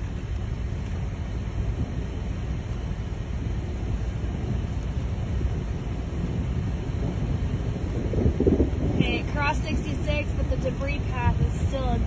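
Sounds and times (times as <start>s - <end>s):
vehicle rumbling: 0.0s - 12.0s
wind rumbling: 0.0s - 12.0s.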